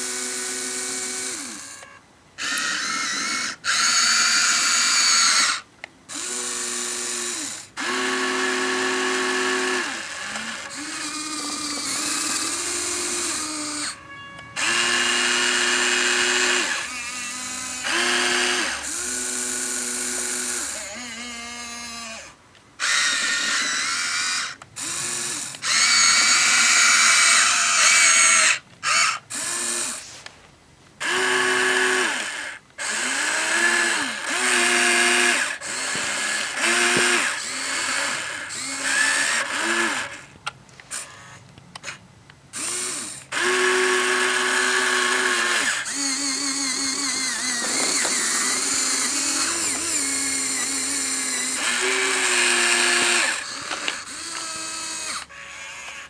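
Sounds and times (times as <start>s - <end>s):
electric gear motors whining: 0.0s - 30.3s, 31.0s - 56.0s.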